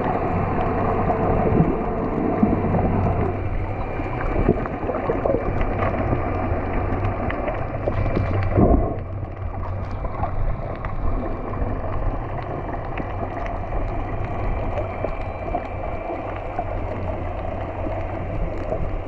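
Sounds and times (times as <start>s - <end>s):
low hum: 0.0s - 19.0s
underwater water rushing and bubbling: 0.0s - 19.0s
water gush: 0.0s - 19.0s.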